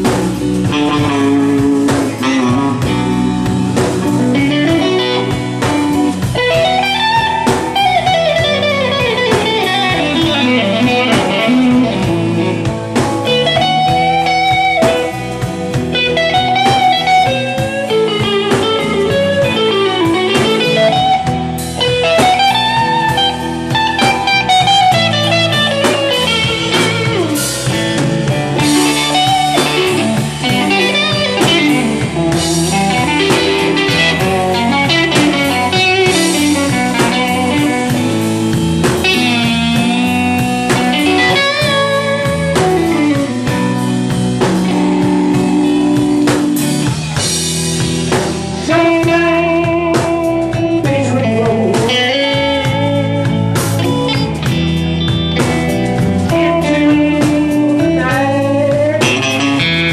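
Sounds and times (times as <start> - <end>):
bass: 0.0 - 59.9
drums: 0.0 - 59.9
electric guitar bending notes: 0.0 - 59.9.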